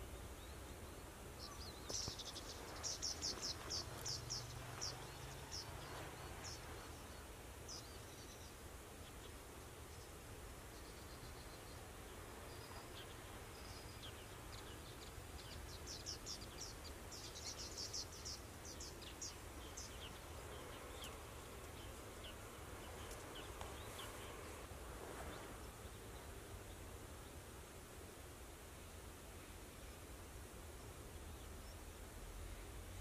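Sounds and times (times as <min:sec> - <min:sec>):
small birds chirping: 0:00.0 - 0:27.5.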